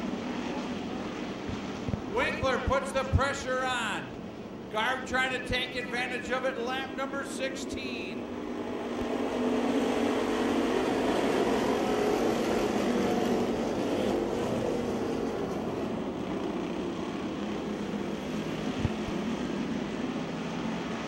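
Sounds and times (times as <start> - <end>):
racing car engines drone: 0.0 - 21.0.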